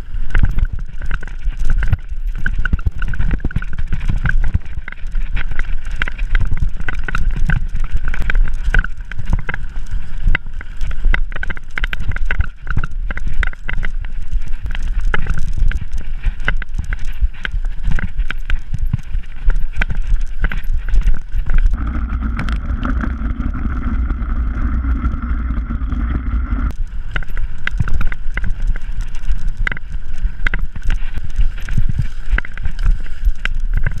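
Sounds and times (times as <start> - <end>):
bike rattling and knocking: 0.0 - 34.0
tyres on dirt and rocks: 0.0 - 34.0
wind buffeting microphone: 0.0 - 34.0.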